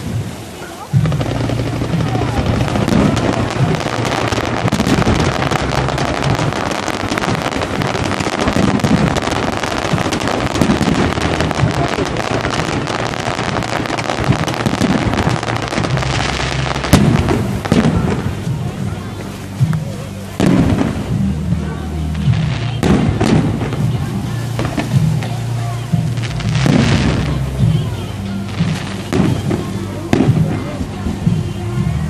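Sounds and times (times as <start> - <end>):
fireworks crackling and banging: 0.0 - 32.0.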